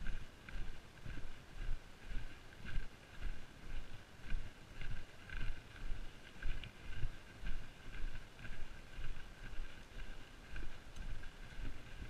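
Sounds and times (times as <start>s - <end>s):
footsteps on muddy path: 0.0s - 12.0s.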